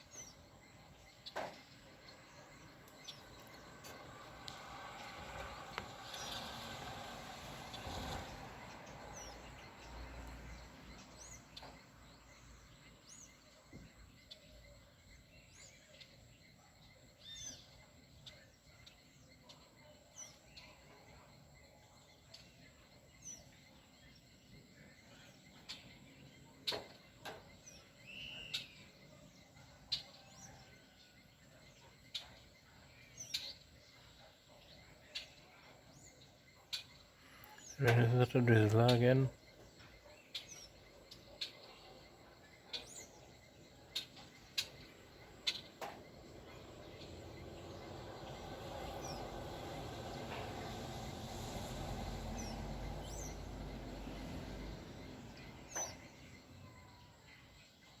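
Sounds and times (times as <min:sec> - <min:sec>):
faint bird chirps: 0:07.7 - 0:58.0.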